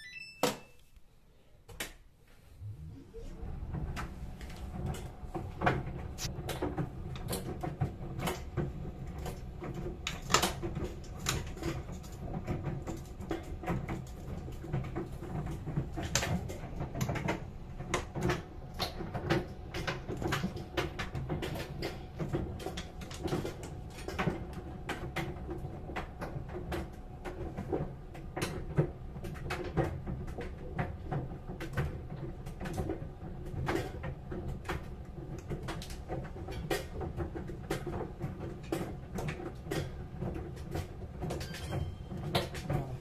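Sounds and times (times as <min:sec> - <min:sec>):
laundry machine humming: 0:02.2 - 0:43.0.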